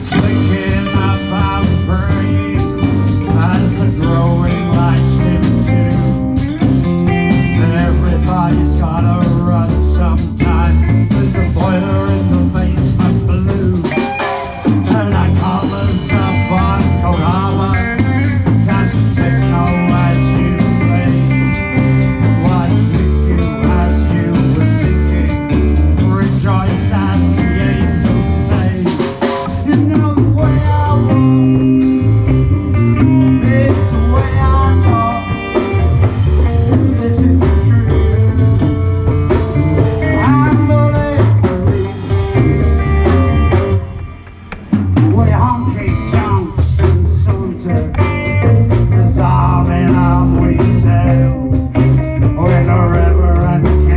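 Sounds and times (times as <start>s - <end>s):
electric guitar lead lines: 0.0s - 53.9s
rock band playing: 0.0s - 53.9s.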